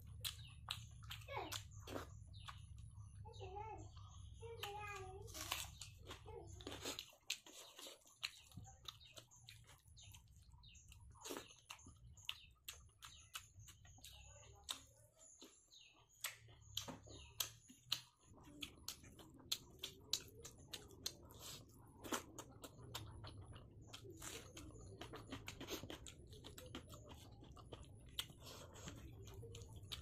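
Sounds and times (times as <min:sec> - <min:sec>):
wet chewing and lip smacking: 0:00.0 - 0:02.9, 0:05.4 - 0:30.0.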